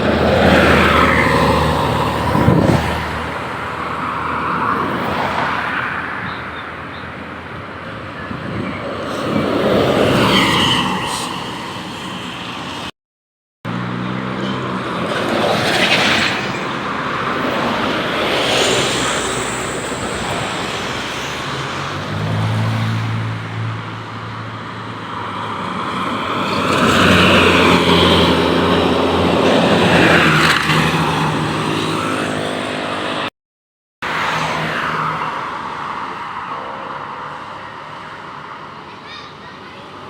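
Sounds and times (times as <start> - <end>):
road and traffic noise: 0.0 - 13.0, 13.6 - 33.4, 34.0 - 40.0.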